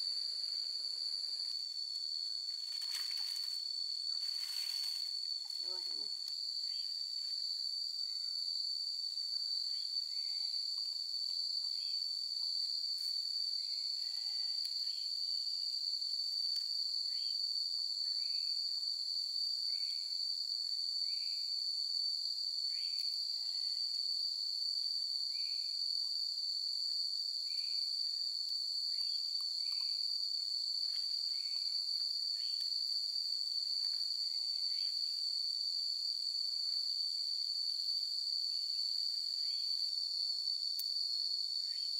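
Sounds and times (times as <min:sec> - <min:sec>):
insect buzzing chorus: 0:00.0 - 0:41.9.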